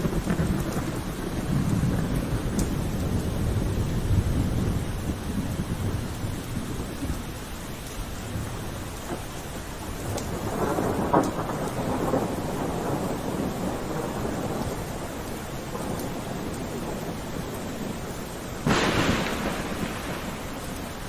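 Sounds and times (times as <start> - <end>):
thunder rumbling: 0.0 - 7.4, 8.1 - 21.0
steady rain: 0.0 - 21.0.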